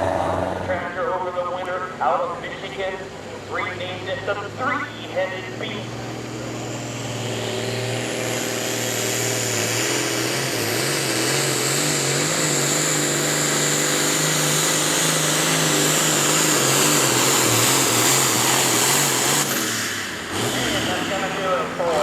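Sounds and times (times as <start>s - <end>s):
tractor engines running hard: 0.0s - 22.0s.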